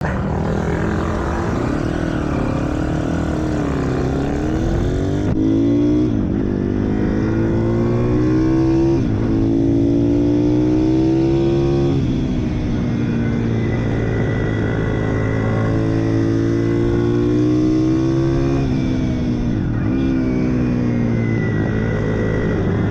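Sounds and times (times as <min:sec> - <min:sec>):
small motorbike engine accelerating: 0:00.0 - 0:22.9.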